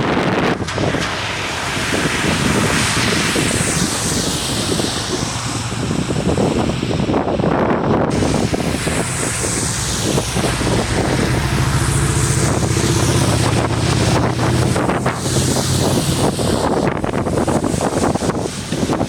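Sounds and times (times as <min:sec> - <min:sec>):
breaking surf: 0:00.0 - 0:19.0
low rumble: 0:00.0 - 0:19.0
strong wind buffeting microphone: 0:00.0 - 0:19.0.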